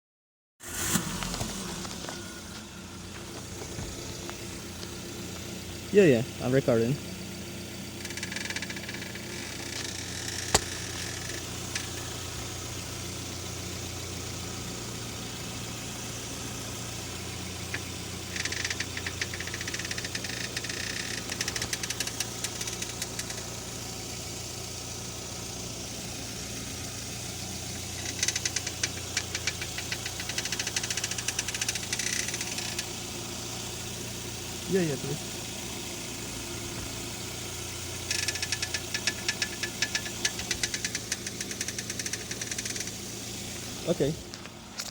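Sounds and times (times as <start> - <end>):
car engine idling: 0.6 - 44.9
steering creaking and grinding: 0.6 - 44.9.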